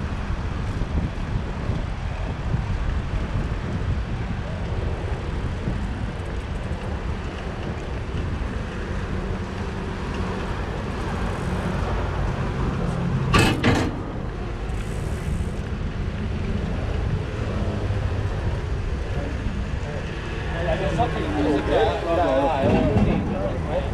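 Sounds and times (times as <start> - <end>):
bicycle ride rumble: 0.0 - 23.9
road traffic: 0.0 - 23.9.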